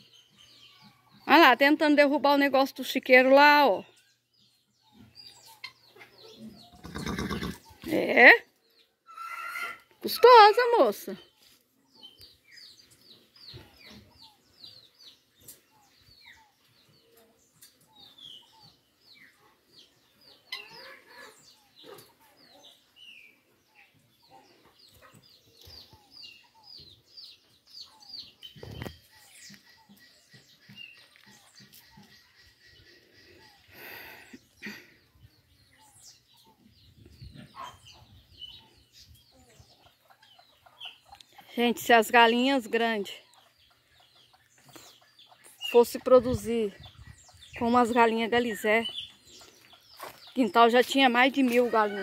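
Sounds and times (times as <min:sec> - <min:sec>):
faint birds chirping: 0:00.0 - 0:52.0.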